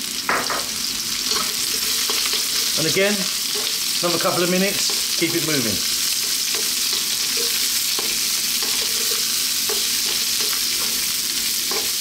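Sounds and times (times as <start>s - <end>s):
vegetables sizzling in hot oil: 0.0s - 12.0s
wooden spatula scraping pan: 1.3s - 5.4s, 6.1s - 12.0s.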